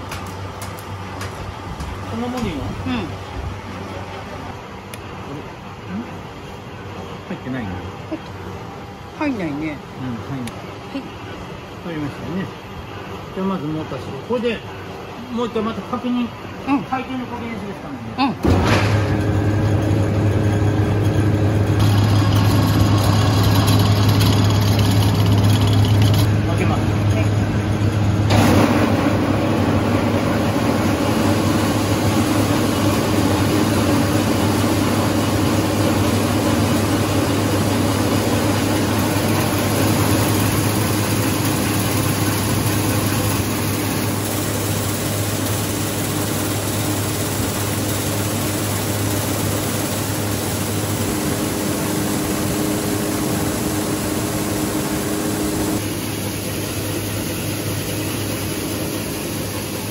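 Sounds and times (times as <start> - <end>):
rice huller machine humming: 9.5 - 59.9.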